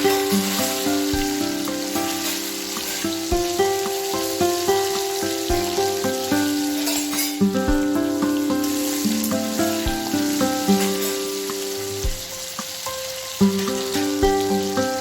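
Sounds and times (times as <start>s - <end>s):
food frying sizzle: 0.0s - 15.0s
instrumental background music: 0.0s - 15.0s.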